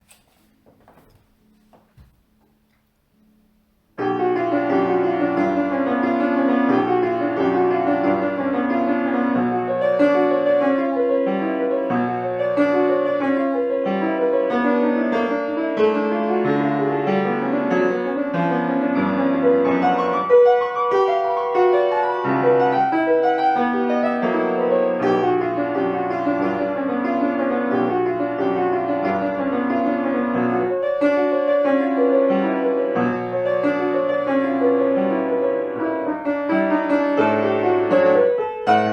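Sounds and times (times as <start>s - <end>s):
solo piano music: 2.2s - 38.9s.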